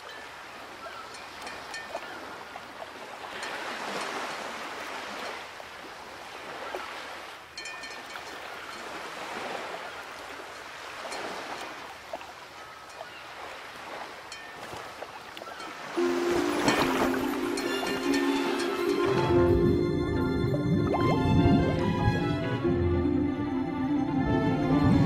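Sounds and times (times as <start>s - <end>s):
ocean waves washing: 0.0s - 25.0s.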